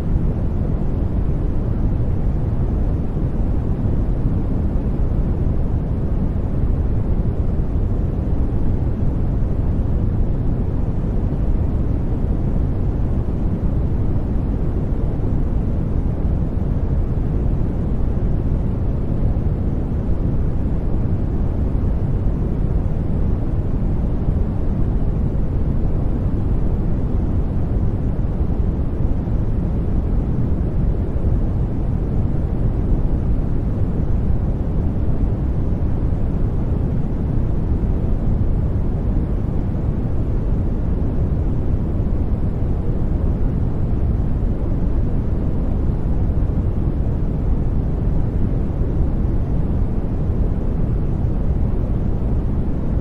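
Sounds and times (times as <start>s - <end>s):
deep brown noise: 0.0s - 53.0s.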